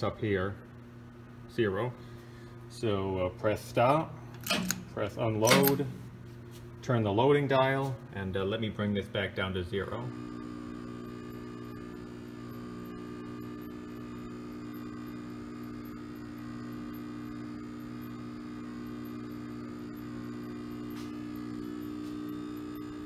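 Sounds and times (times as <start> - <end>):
electric drive humming: 0.0 - 23.0.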